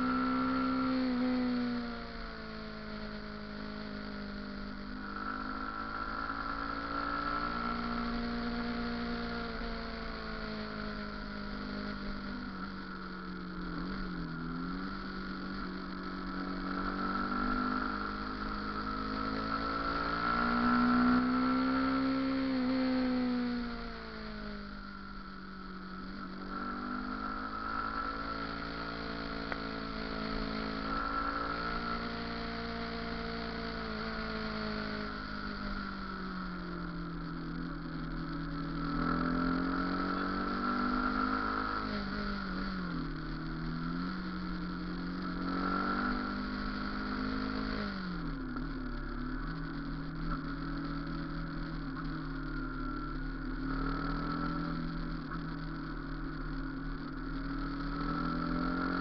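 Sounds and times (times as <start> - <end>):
motorcycle engine revving: 0.0 - 59.0
steady high whine: 0.0 - 59.0.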